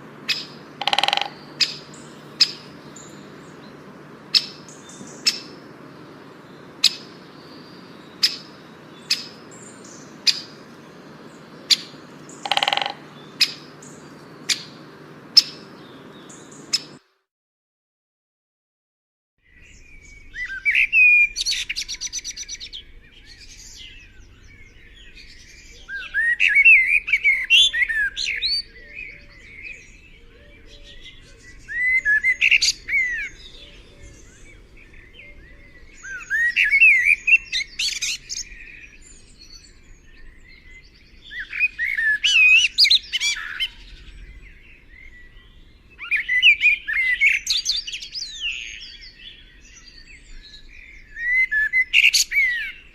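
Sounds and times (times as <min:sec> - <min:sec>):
small bird warbling song: 0:00.0 - 0:17.0, 0:19.4 - 0:52.9.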